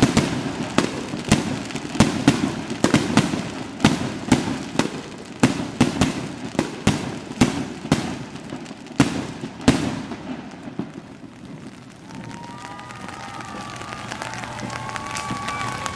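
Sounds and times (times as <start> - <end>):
fireworks bursting with sharp bangs: 0.0 - 15.9.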